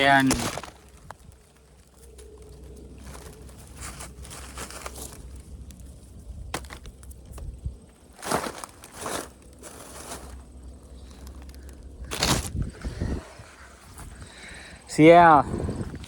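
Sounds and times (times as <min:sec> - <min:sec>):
footsteps crunching dry stubble: 0:00.0 - 0:16.0
low steady rumble: 0:00.0 - 0:16.0.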